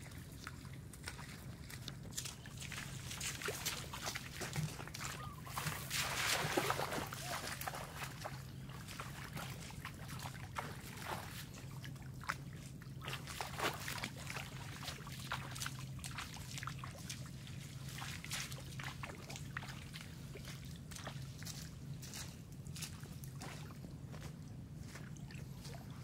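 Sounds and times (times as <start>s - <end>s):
shallow water splashing: 0.0s - 22.2s
steady low hum: 0.0s - 26.0s.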